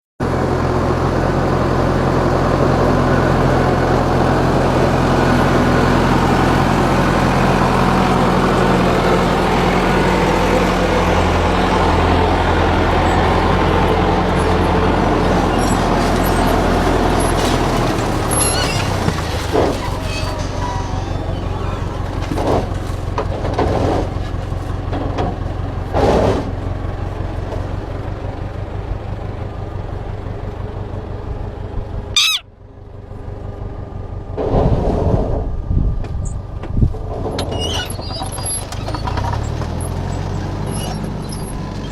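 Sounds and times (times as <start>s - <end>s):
vehicle engine humming: 0.2s - 34.5s.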